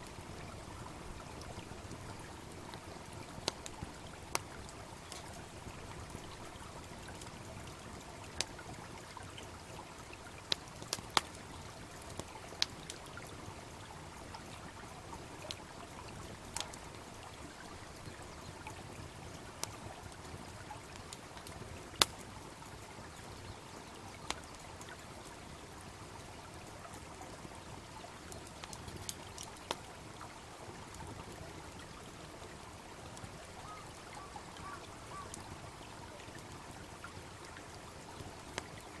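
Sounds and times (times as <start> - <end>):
babbling brook: 0.0 - 39.0
campfire crackling and popping: 0.0 - 39.0.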